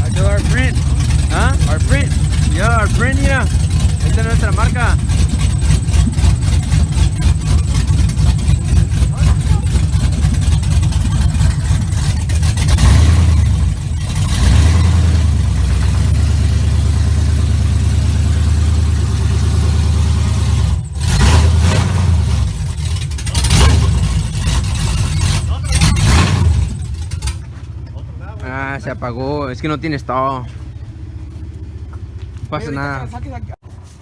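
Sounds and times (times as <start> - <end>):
truck engine idling and revving: 0.0 - 34.0.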